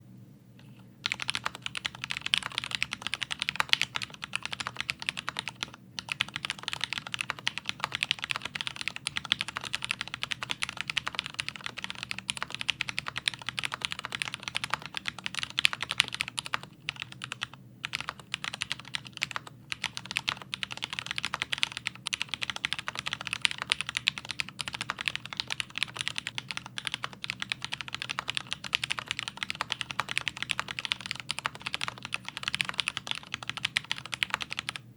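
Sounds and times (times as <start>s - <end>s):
fast typing on mechanical keyboard: 1.0s - 34.8s.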